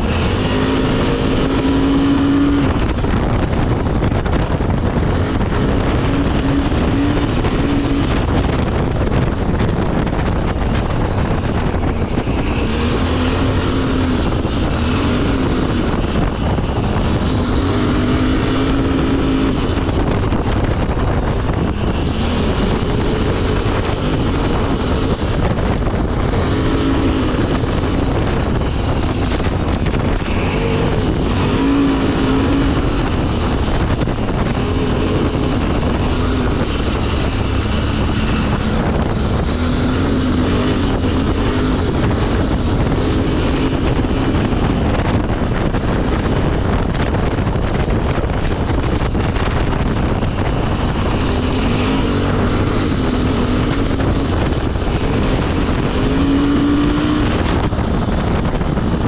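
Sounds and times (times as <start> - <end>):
atv engine revving: 0.0 - 59.0
steady rush of noise: 0.0 - 59.0.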